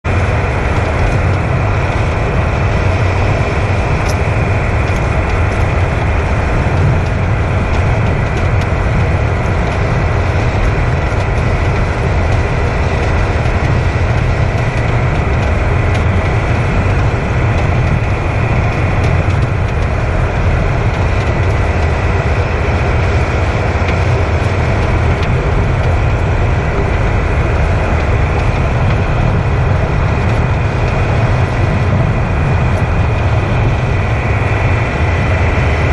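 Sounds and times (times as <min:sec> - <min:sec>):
vehicle rumble: 0:00.0 - 0:35.9.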